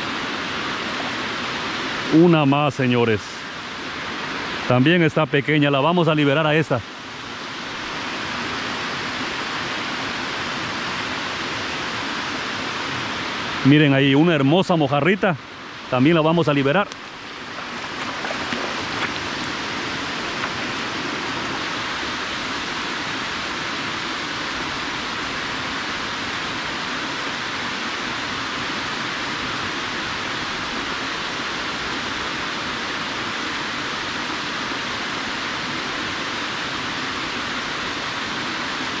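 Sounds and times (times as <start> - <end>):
water rushing down dam spillway: 0.0 - 39.0.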